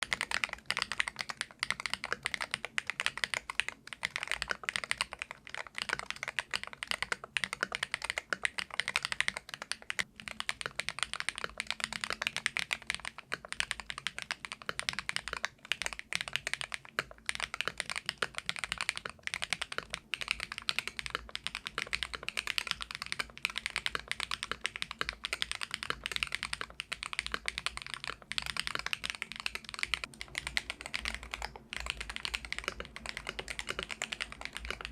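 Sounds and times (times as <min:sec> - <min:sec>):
fast keyboard typing: 0:00.0 - 0:34.9.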